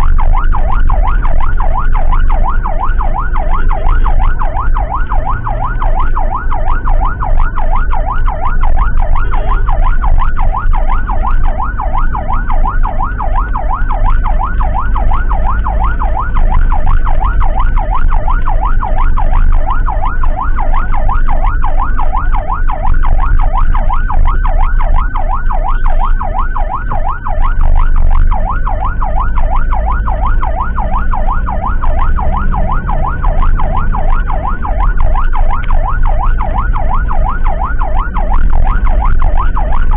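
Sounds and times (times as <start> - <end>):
siren fast yelp: 0.0 - 39.9
vehicle road rumble: 0.0 - 39.9.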